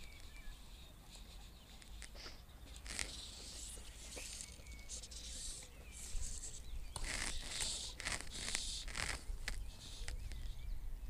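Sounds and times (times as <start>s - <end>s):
short hissing rustles: 1.2s - 10.2s.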